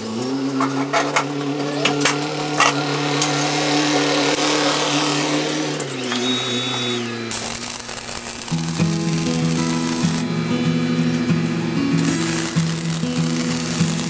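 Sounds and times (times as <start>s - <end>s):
electric power tool motor hum: 0.0s - 14.0s.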